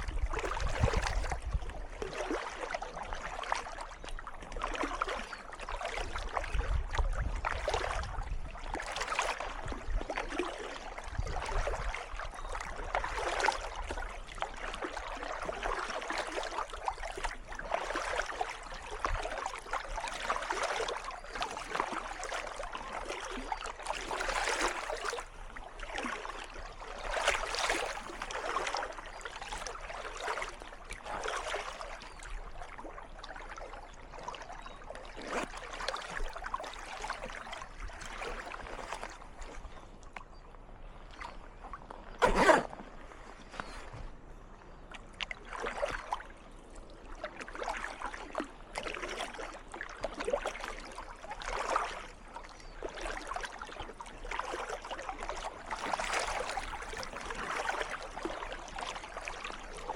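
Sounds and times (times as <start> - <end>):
paddle splashing in water: 0.0 - 59.9.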